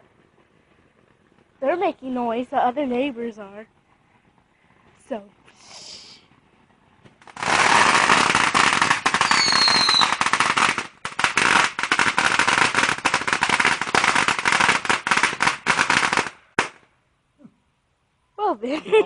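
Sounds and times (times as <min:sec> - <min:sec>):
firecrackers banging: 0:00.0 - 0:16.9.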